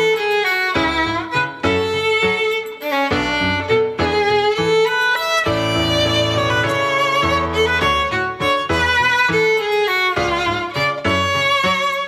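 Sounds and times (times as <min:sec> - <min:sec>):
violin-led background music: 0:00.0 - 0:12.0.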